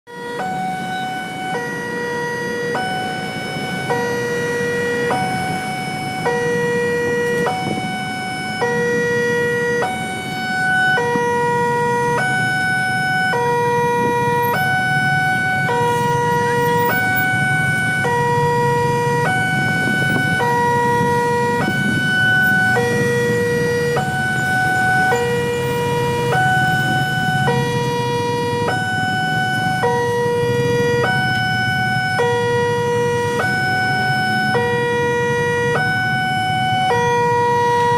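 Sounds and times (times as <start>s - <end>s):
two-tone level crossing siren: 0.1s - 37.9s.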